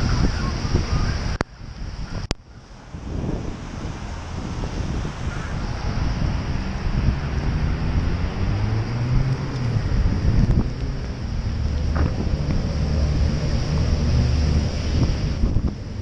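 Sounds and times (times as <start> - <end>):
tyres hissing on wet road: 0.0 - 16.0
wind buffeting microphone: 0.0 - 16.0.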